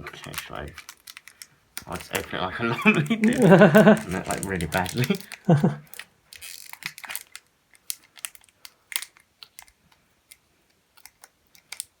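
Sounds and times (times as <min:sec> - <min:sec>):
foil wrapper crinkling: 0:00.0 - 0:09.8.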